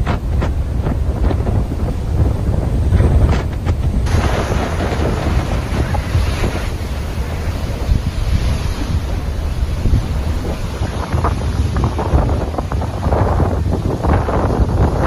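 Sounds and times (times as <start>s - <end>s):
steady rushing hiss: 0.0s - 15.0s
wind buffeting microphone: 0.0s - 15.0s.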